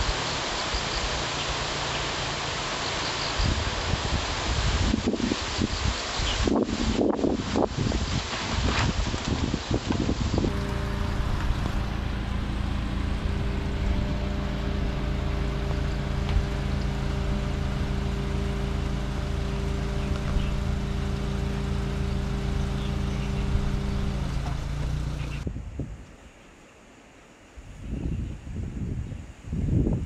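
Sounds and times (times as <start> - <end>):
van engine running: 0.0 - 25.5.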